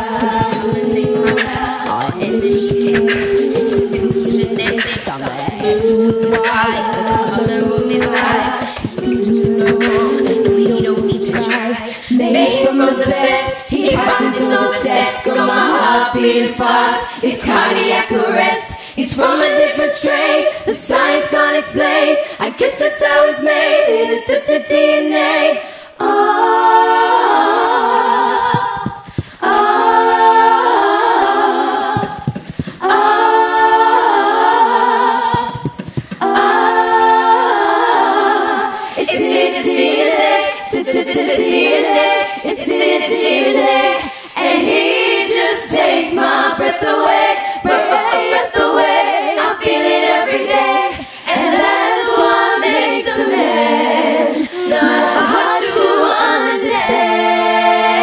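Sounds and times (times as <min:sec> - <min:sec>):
women singing a cappella harmony: 0:00.0 - 0:58.0.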